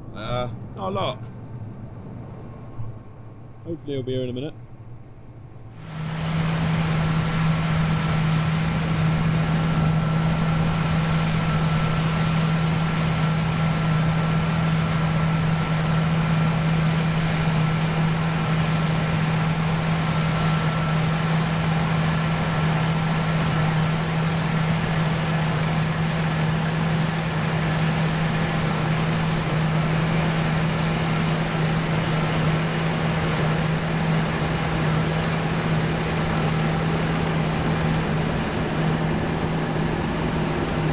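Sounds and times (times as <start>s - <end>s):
constant low hum: 0.0s - 40.9s
combine harvester running: 5.8s - 40.9s.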